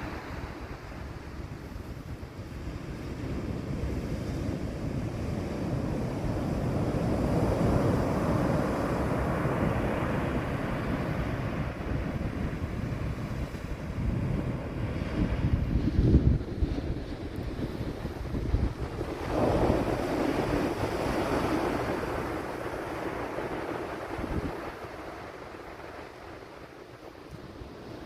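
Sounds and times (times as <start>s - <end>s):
ocean surf rushing: 0.0s - 2.0s, 4.3s - 28.0s
wind buffeting microphone: 0.0s - 28.0s.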